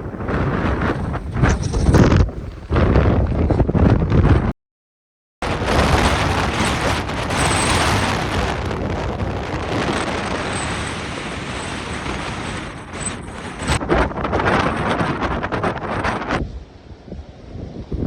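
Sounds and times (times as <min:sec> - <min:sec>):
strong wind buffeting microphone: 0:00.0 - 0:04.5, 0:05.4 - 0:18.0.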